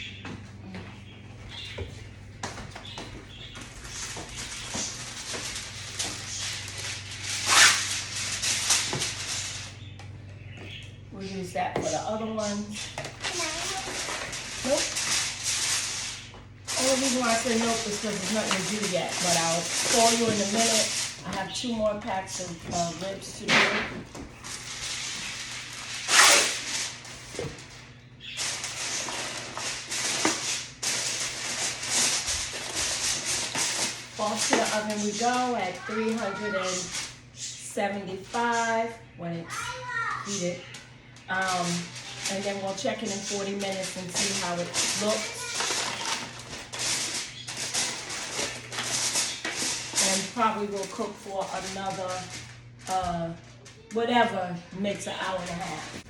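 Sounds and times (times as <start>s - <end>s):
aluminum foil crinkling: 2.6s - 9.9s, 12.3s - 38.8s, 39.5s - 56.0s.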